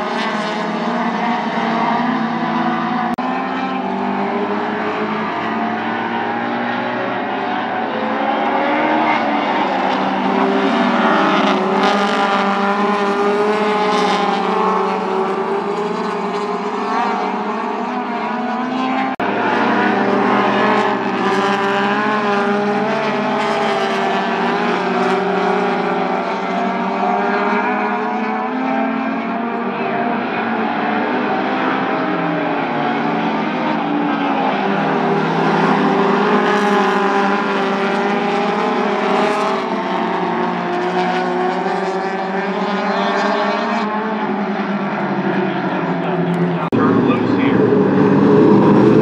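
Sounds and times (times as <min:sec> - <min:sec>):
race car engines: 0:00.0 - 0:49.0.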